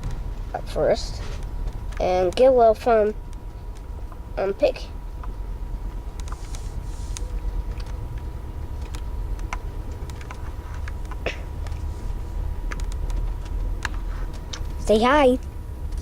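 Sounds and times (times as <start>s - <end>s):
light clicks and rattles: 0.0s - 16.0s
train interior rumble: 0.0s - 16.0s.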